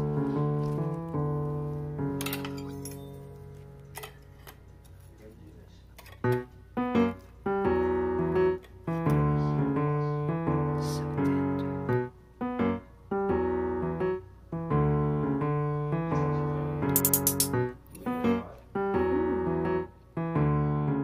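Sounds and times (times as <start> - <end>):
piano notes and chords: 0.0 - 5.1, 6.0 - 21.0.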